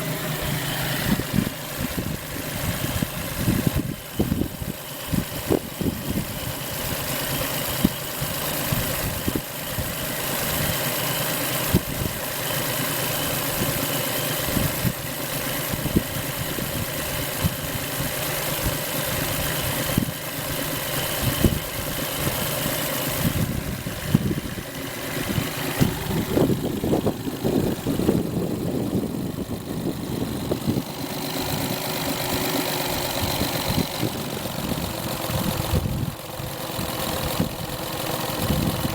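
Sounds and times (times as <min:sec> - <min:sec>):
outboard motor idling: 0:00.0 - 0:38.9.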